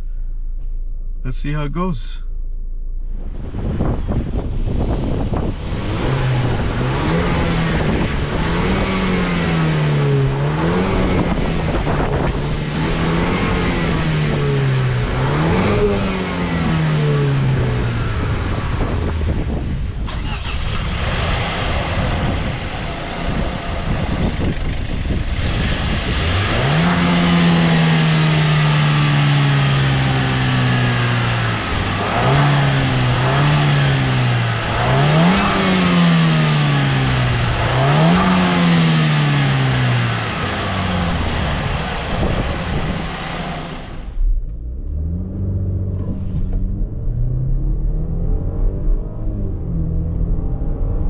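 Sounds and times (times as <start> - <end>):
road and wind noise: 0.0 - 51.0
car engine accelerating hard: 2.5 - 51.0.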